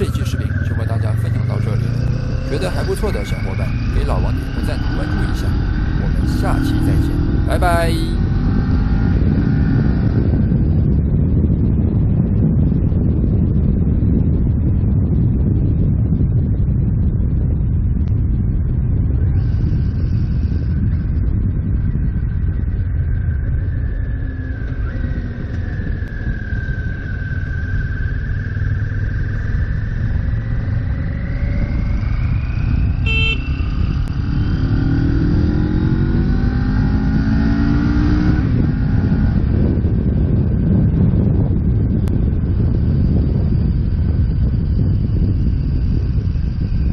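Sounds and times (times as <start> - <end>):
heavy wind noise: 0.0 - 46.9
motorcycle engine accelerating: 0.0 - 46.9.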